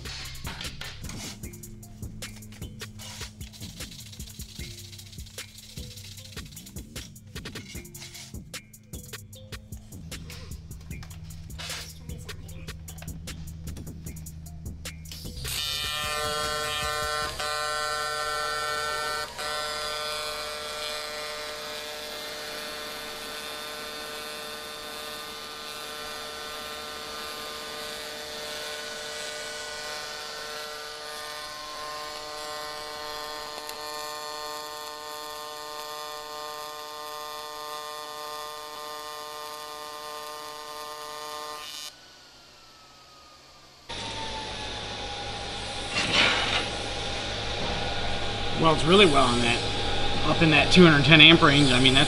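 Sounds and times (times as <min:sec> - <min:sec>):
welding arc buzzing: 0:00.0 - 0:42.1, 0:43.9 - 0:52.0.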